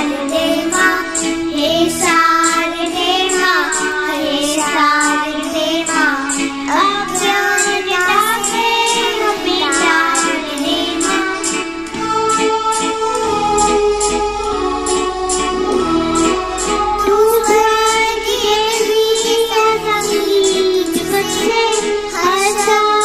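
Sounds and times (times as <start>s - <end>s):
children singing: 0.0s - 23.0s
instrumental accompaniment: 0.0s - 23.0s.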